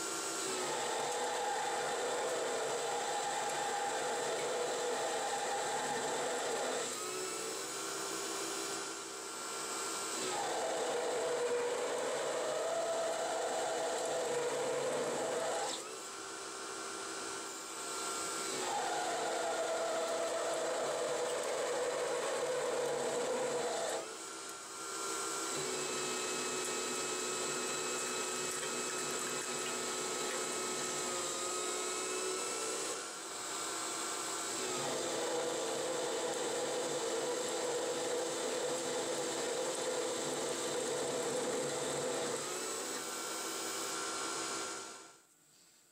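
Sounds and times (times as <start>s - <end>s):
lathe motor whine: 0.0s - 45.2s.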